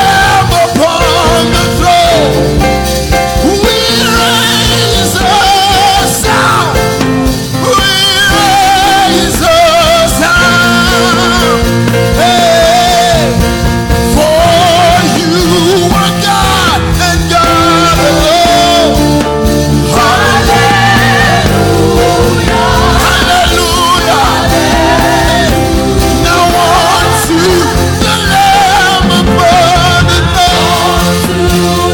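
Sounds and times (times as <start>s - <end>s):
full band with steady beat: 0.0s - 31.9s
lead singer singing gospel: 0.0s - 31.9s.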